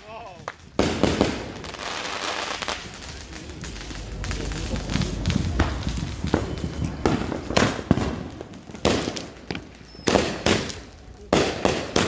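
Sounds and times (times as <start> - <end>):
crackling firework bursts: 0.0 - 12.0
firework bangs: 0.0 - 12.0.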